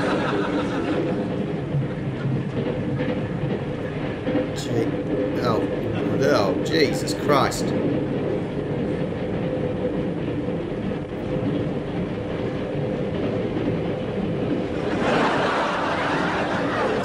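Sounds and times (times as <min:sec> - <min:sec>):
train carriage rumbling and rattling: 0:00.0 - 0:17.0.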